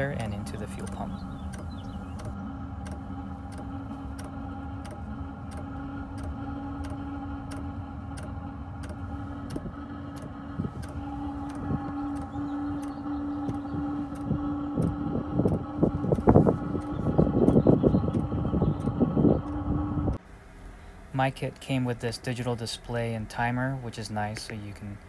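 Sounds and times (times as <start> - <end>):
fuel pump ticking: 0.0 - 20.2
steady low hum: 0.0 - 25.0.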